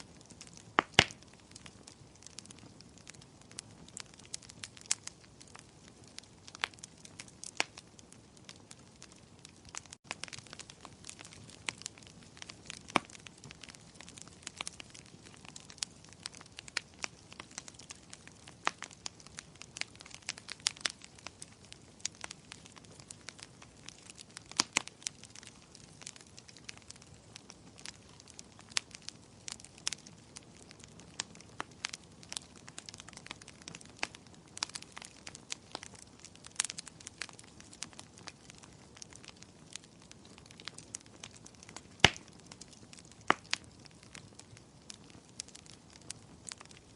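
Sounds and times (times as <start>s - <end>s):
fire popping: 0.0s - 46.9s
wood fire crackling: 0.0s - 46.9s.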